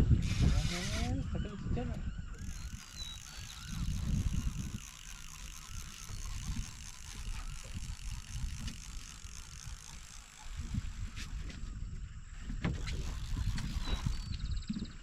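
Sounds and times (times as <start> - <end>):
low rumble of wind and water: 0.0 - 15.0
fishing reel ratchet clicking: 0.2 - 1.2, 2.3 - 11.6, 12.7 - 14.8.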